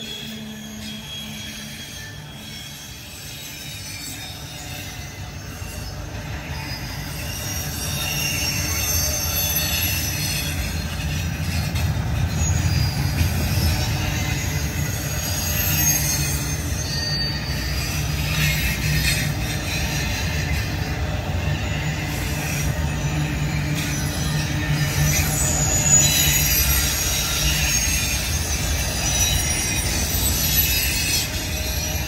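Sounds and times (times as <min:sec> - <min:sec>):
freight train rumble: 0:00.0 - 0:32.0
train wheels squealing: 0:00.0 - 0:32.0.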